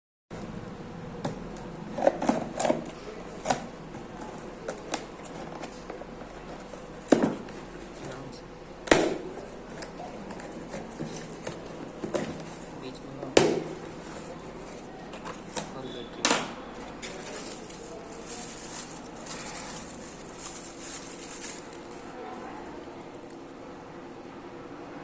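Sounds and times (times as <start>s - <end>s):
packaging being handled: 2.1s - 15.9s, 16.7s - 23.3s.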